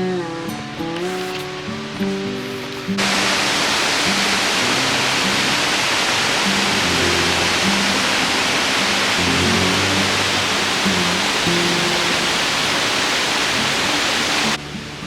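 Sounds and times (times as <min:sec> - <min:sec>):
acoustic guitar music: 0:00.0 - 0:15.0
fast-flowing creek water rushing: 0:01.0 - 0:15.0.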